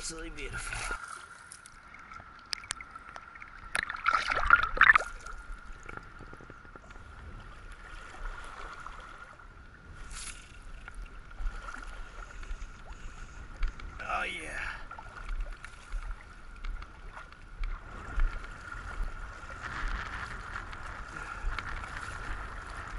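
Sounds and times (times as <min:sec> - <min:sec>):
river water splashing: 0:00.0 - 0:06.2, 0:06.8 - 0:22.9
river running and lapping: 0:00.0 - 0:22.9.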